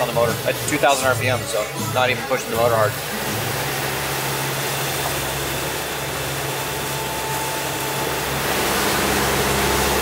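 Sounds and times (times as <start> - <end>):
boat diesel engine humming: 0.0 - 10.0.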